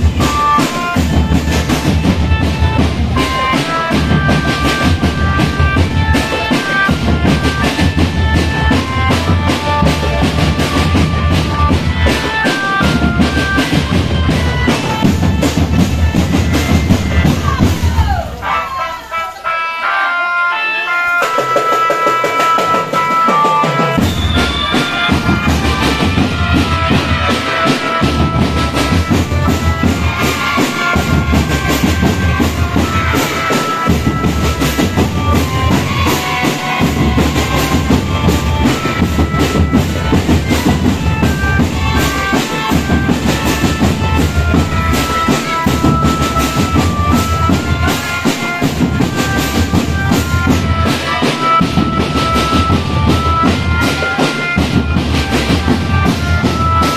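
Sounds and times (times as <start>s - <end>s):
snare and bass drums: 0.0s - 18.4s, 21.2s - 56.9s
marching drum band playing: 0.0s - 56.9s
stepping melody line: 0.0s - 56.9s.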